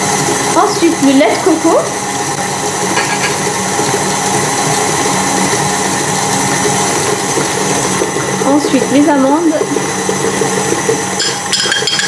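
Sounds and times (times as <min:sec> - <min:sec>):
beater churning batter in metal bowl: 0:00.0 - 0:12.0
stand mixer running: 0:00.0 - 0:12.0.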